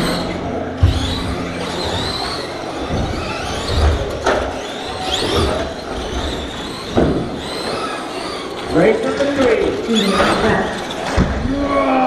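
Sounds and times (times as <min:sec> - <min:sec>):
rc truck motors whining: 0:00.0 - 0:11.7.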